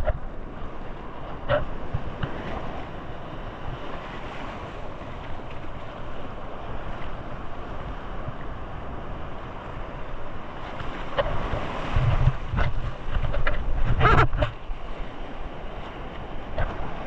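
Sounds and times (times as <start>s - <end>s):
sea waves: 0.0s - 17.0s
wind on microphone: 0.0s - 17.0s.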